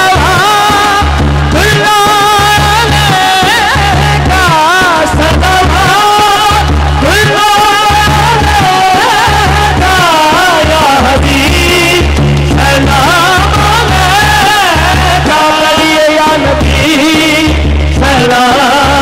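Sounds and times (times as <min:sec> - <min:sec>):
devotional music over sound system: 0:00.0 - 0:19.0
low drum beat: 0:00.0 - 0:19.0.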